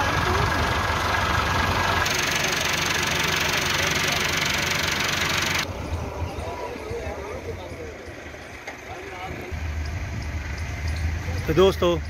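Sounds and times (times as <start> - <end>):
distant engine: 0.0 - 12.0
tractor diesel engine running: 0.0 - 12.0.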